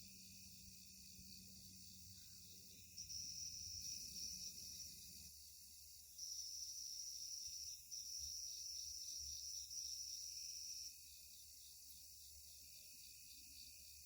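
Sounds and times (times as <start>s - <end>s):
insect high trill: 0.0s - 11.6s
faint insect chorus: 0.0s - 14.0s.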